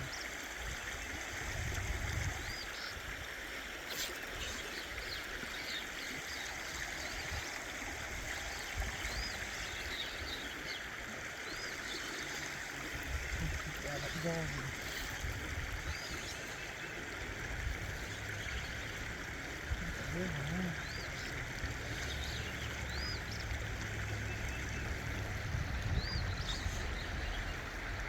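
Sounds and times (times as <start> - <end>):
river current rushing: 0.1 - 28.0.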